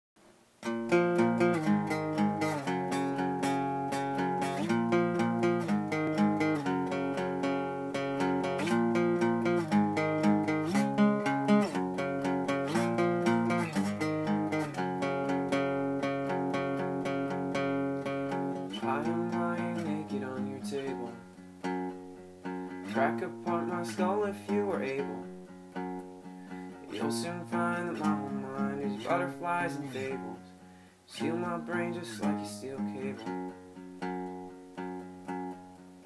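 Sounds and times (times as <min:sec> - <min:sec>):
acoustic guitar strumming: 0:00.6 - 0:36.0.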